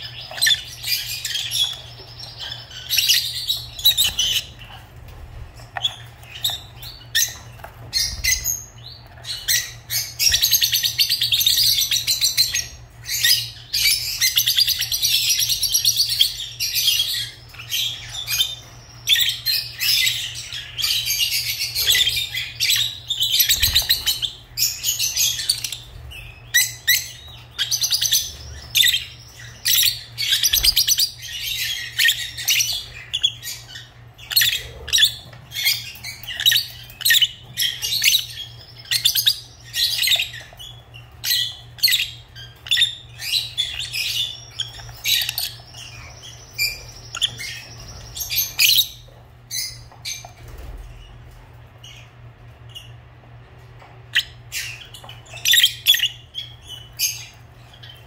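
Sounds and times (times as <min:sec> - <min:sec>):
lovebirds chirping: 0:00.0 - 0:53.3, 0:53.9 - 0:58.0.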